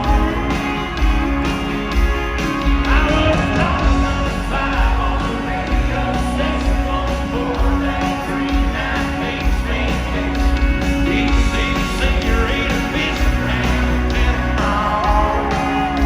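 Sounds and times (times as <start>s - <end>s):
man singing: 0.0s - 1.4s, 2.8s - 16.0s
country band playing: 0.0s - 16.0s.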